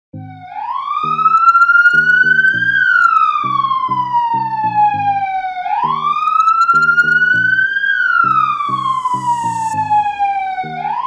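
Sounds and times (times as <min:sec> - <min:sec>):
music with rhythmic bass line: 0:00.2 - 0:11.0
police siren wailing: 0:00.2 - 0:11.0.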